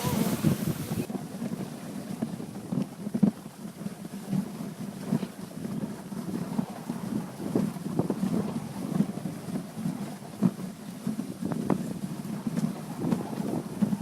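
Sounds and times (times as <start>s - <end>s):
sled knocks and rattles: 0.0s - 14.0s
wind buffeting microphone: 0.0s - 14.0s.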